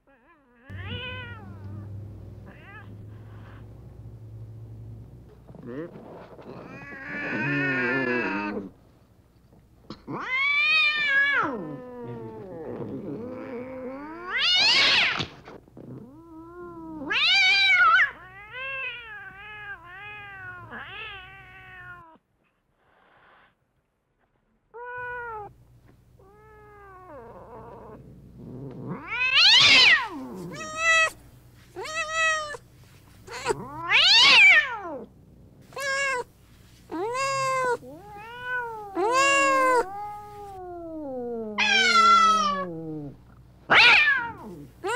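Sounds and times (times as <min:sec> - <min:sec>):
cats meowing: 0:00.1 - 0:03.7, 0:05.6 - 0:08.8, 0:10.0 - 0:22.2, 0:26.2 - 0:28.0, 0:28.6 - 0:32.6, 0:33.2 - 0:36.3, 0:36.9 - 0:44.9.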